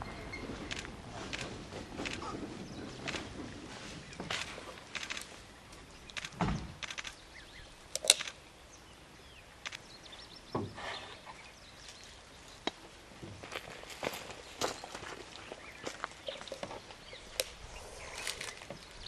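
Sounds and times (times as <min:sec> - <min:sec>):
quiet outdoor ambience: 0:00.0 - 0:19.0.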